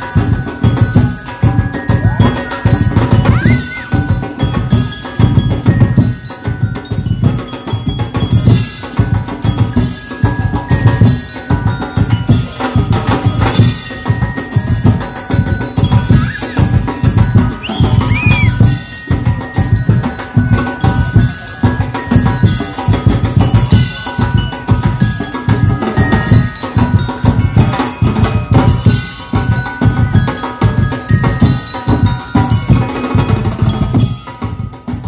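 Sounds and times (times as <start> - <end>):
drums beating fast rhythm: 0.0 - 35.0
mallet percussion melody: 0.0 - 35.0.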